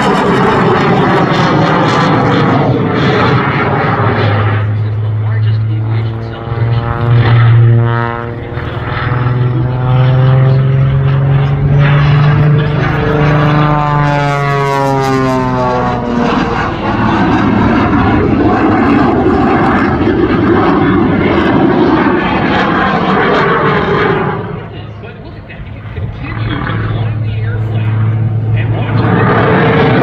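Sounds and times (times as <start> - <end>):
jet engine roar: 0.0 - 30.0
propeller plane droning: 0.0 - 30.0.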